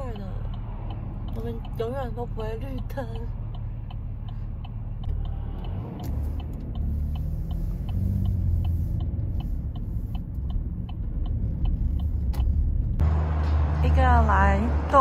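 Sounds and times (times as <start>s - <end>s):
turn signal clicking: 0.0s - 13.0s
car engine and road rumble: 0.0s - 15.0s.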